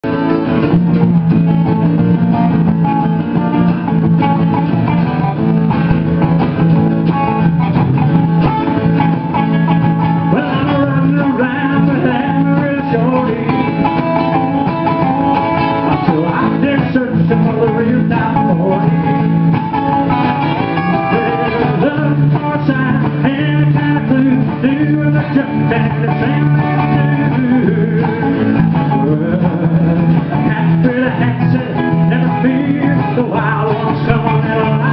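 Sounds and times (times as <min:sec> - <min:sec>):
amplified acoustic guitar: 0:00.0 - 0:34.9
live country music: 0:00.0 - 0:34.9.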